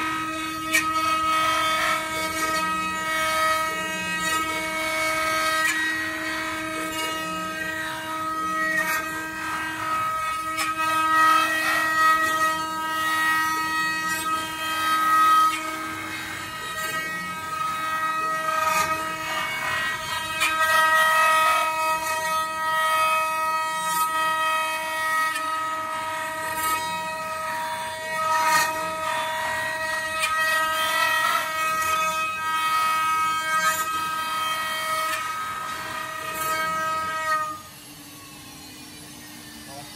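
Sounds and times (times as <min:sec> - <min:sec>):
bits cutting wood: 0:00.0 - 0:37.6
router spindles whining: 0:00.0 - 0:39.9.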